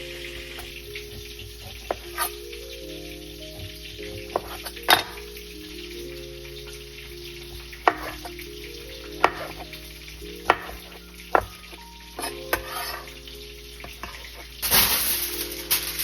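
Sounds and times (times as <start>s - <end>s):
food sizzling in a pan: 0.0s - 16.0s
soft background music: 0.0s - 16.0s.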